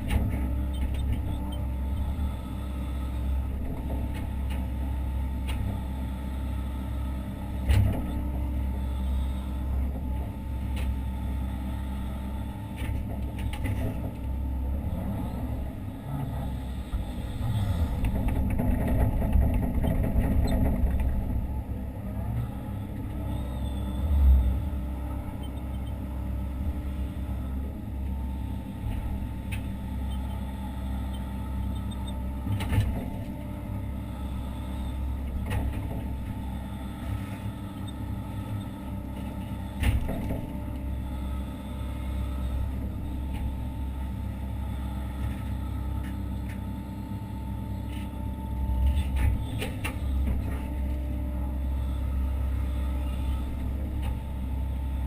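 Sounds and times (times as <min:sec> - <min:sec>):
excavator diesel engine and hydraulics: 0:00.0 - 0:55.0.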